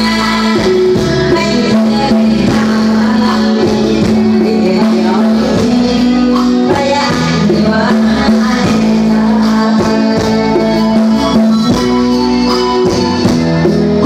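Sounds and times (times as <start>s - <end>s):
person singing: 0.0s - 12.0s
live band music over sound system: 0.0s - 14.0s.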